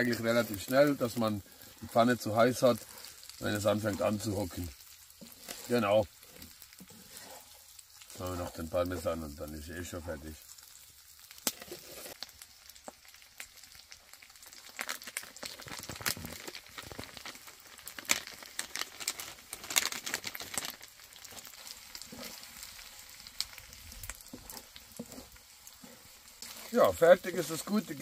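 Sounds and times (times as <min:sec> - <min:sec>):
food sizzling and crackling in pan: 0:00.0 - 0:28.0.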